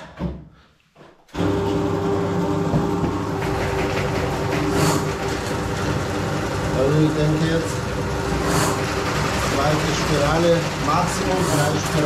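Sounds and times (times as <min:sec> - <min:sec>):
drain cleaning machine humming: 0:01.3 - 0:12.0.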